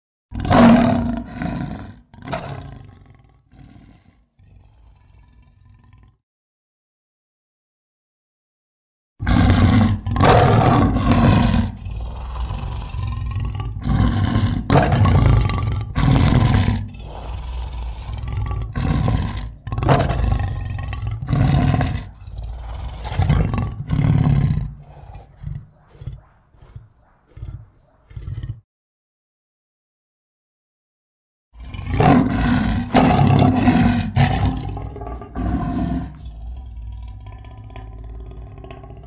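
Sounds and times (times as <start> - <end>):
dinosaur roars: 0.3 - 6.2, 9.2 - 28.6, 31.6 - 39.0
low rumbling growls: 0.4 - 6.2, 9.2 - 28.6, 31.6 - 39.0.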